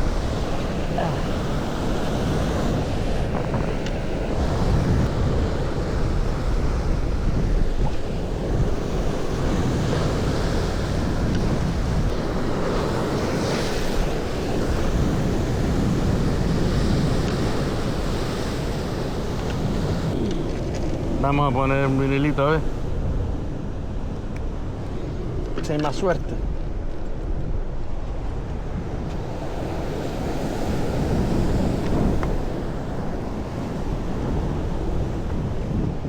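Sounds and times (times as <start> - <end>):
sea waves breaking on shore: 0.0 - 36.0
wind rumbling on microphone: 0.0 - 36.0.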